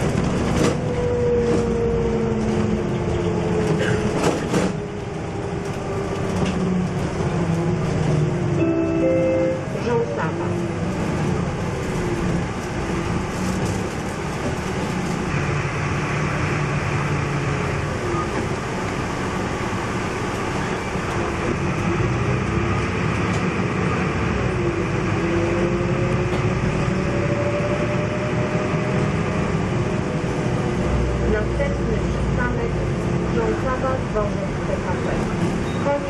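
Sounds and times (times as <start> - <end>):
bus diesel engine: 0.0 - 36.0
road noise: 0.0 - 36.0.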